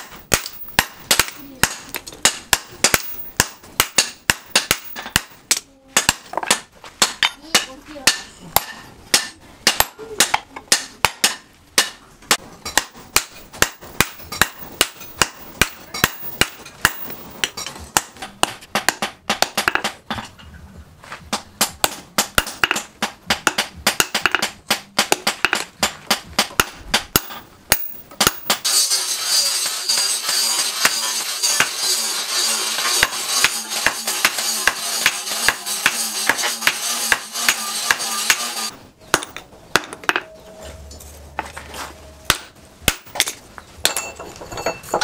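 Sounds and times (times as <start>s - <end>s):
hammer striking hot metal on anvil: 0.0s - 5.4s, 6.0s - 12.0s, 12.6s - 20.0s, 21.8s - 40.3s.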